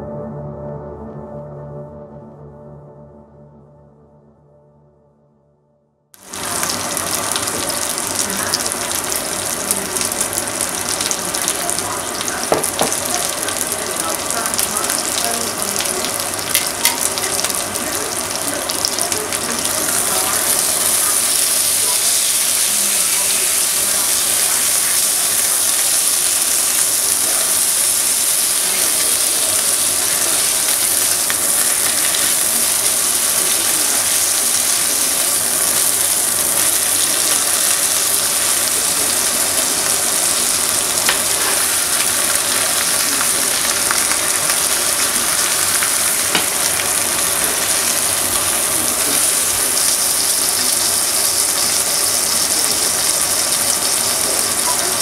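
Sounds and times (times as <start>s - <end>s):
meat sizzling in a pan: 6.2s - 55.0s.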